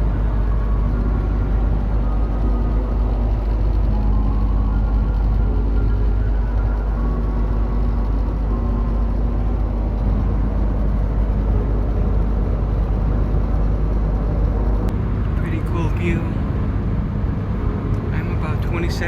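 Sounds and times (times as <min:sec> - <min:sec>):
truck engine and road drone: 0:00.0 - 0:19.0.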